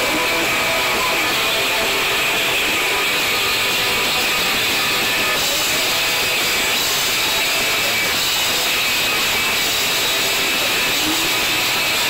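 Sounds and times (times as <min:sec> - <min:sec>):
live rock band with electric guitar: 0:00.0 - 0:12.0.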